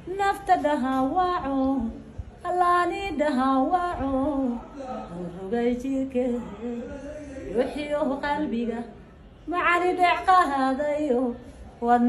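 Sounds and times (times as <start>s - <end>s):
woman singing unaccompanied: 0.0s - 6.9s, 7.5s - 12.0s.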